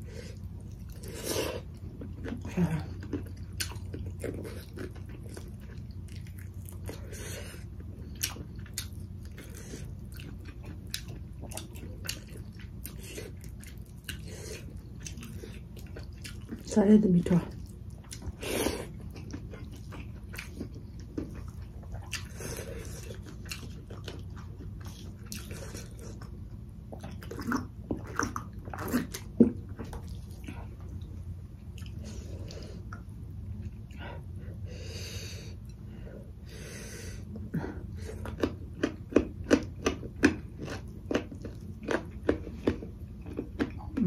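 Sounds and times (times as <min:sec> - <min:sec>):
person chewing and smacking: 0:00.0 - 0:16.8, 0:17.5 - 0:34.3, 0:37.2 - 0:44.0.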